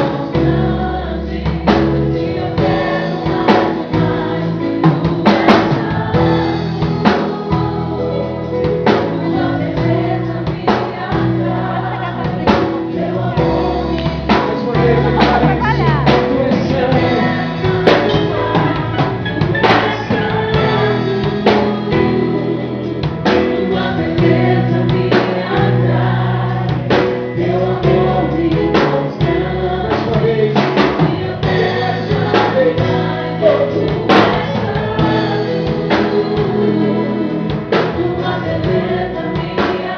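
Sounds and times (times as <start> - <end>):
band playing: 0.0 - 39.9
bass notes: 0.0 - 39.9
steady drum beat: 0.0 - 39.9
voices singing together: 0.0 - 39.9.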